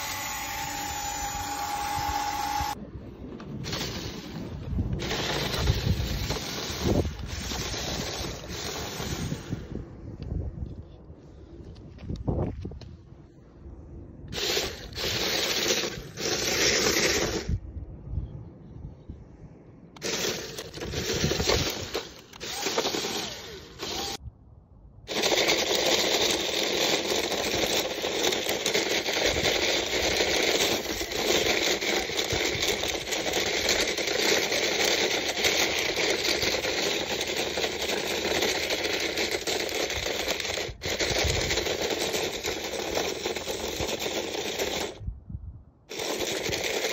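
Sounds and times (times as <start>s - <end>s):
toy car wheels crunching gravel: 0.0s - 2.8s, 3.4s - 9.8s, 14.3s - 17.6s, 20.0s - 24.2s, 25.1s - 45.0s, 45.9s - 46.9s
toy car wheels scraping dirt: 0.0s - 10.3s, 14.3s - 17.6s, 20.0s - 24.2s, 25.1s - 45.0s, 45.9s - 46.9s.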